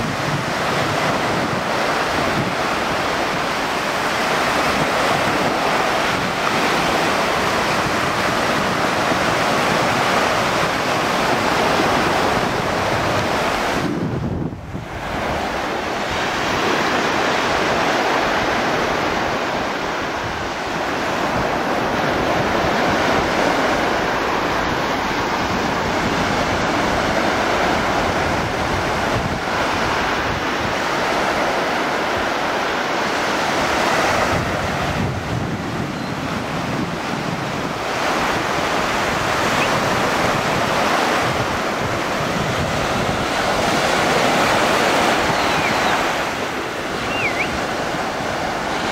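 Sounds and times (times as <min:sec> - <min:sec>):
surf washing: 0:00.0 - 0:48.9
wind buffeting microphone: 0:00.0 - 0:48.9.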